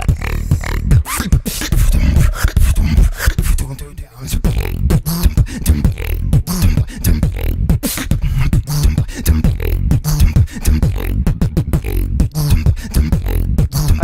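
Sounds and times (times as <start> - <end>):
beatboxing: 0.0 - 14.0.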